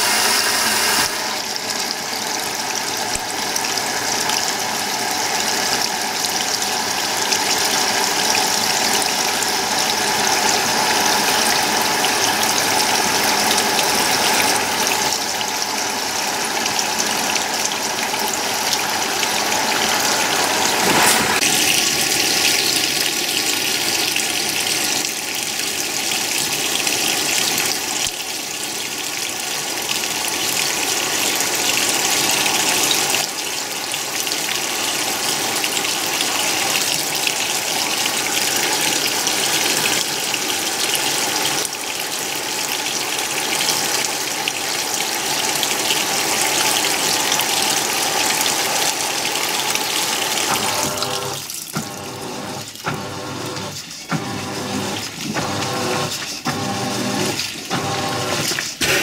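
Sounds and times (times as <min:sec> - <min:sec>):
water gushing into washing machine: 0:00.0 - 0:59.0.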